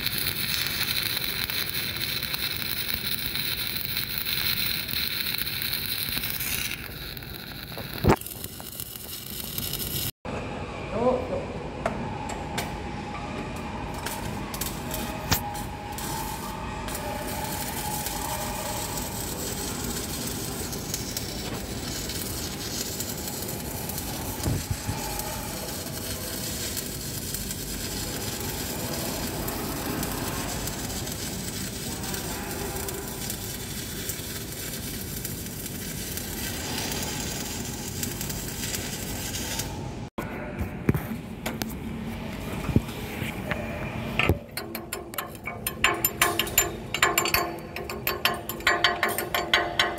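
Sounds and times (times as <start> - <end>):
welding arc crackling: 0.0 - 10.2, 13.9 - 40.0, 44.2 - 49.9.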